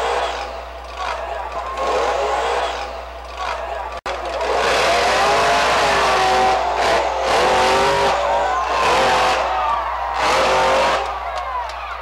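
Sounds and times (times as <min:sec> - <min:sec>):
monster truck engine revving: 0:00.0 - 0:03.0, 0:04.1 - 0:11.4.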